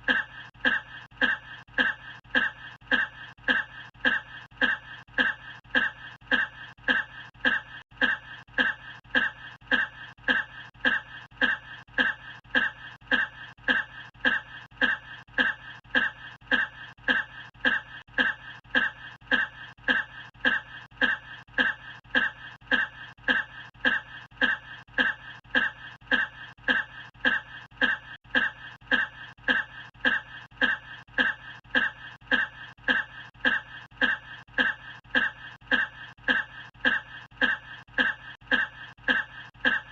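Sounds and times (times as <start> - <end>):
person coughing: 0.0 - 39.9.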